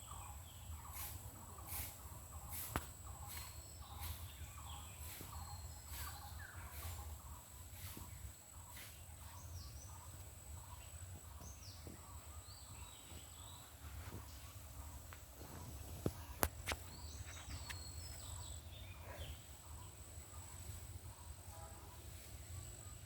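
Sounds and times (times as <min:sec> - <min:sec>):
high falling bird calls: 0:00.0 - 0:21.4.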